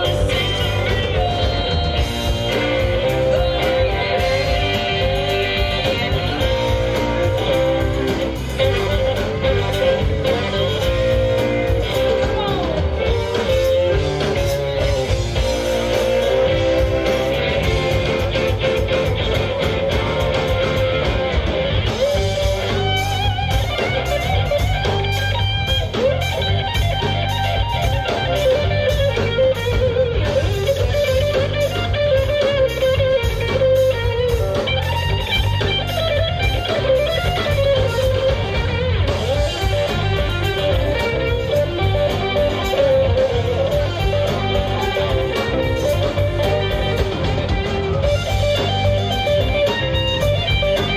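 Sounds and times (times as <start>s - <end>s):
live band playing instrumental: 0.0s - 50.9s.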